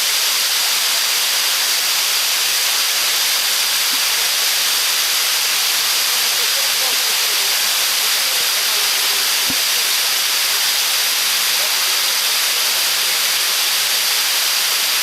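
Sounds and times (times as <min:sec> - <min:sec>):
water rushing over dam: 0:00.0 - 0:15.0.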